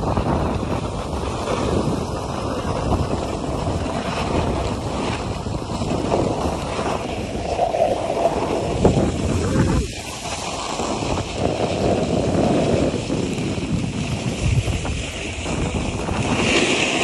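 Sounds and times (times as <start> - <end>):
ski scraping on packed snow: 0.0 - 17.0
wind buffeting microphone: 0.0 - 17.0.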